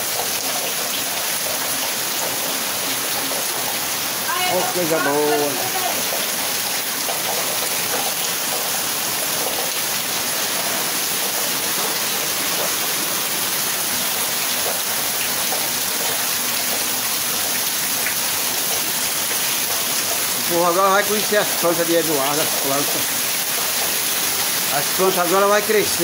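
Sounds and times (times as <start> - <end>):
heavy rain splashing into water: 0.0 - 26.0
rain on plastic tanks: 0.0 - 26.0.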